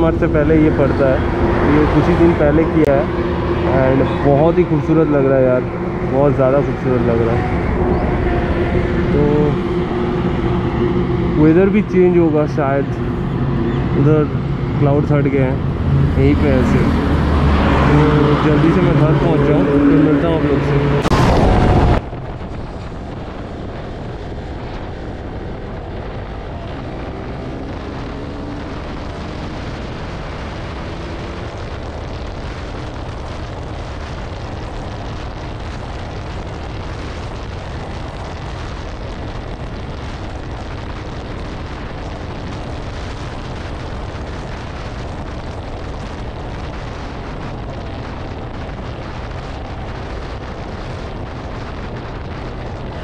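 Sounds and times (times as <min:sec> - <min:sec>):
motorcycle engine: 0:00.0 - 0:53.0
road noise: 0:00.0 - 0:53.0
wind rush on microphone: 0:00.0 - 0:53.0.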